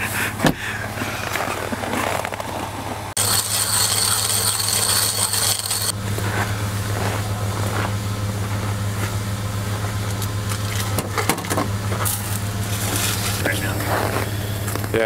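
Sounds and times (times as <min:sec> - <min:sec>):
low hum: 0:01.6 - 0:14.9.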